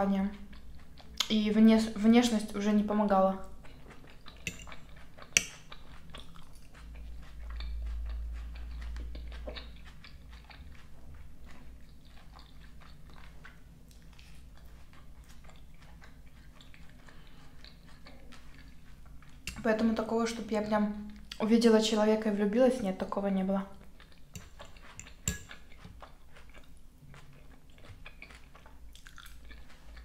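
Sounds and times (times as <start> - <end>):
chewing crunchy salad: 0.2 - 22.3, 23.7 - 30.0.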